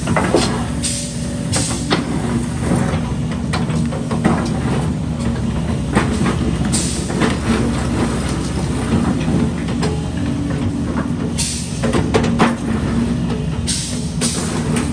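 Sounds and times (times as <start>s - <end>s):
concrete rubble clanking: 0.0s - 14.9s
heavy diesel machinery running: 0.0s - 14.9s.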